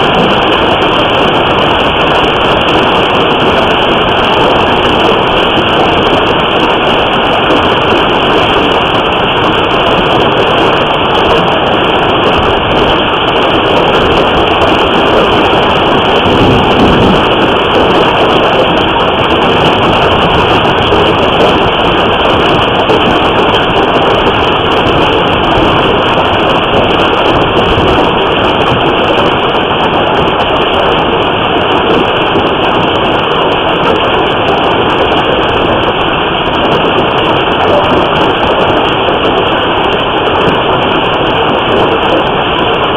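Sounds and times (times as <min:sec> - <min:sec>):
hail and rain pounding: 0:00.0 - 0:42.9.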